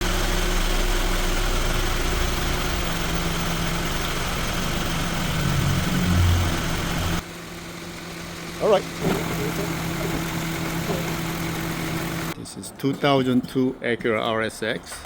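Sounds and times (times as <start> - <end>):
car engine idling: 0.0 - 12.4.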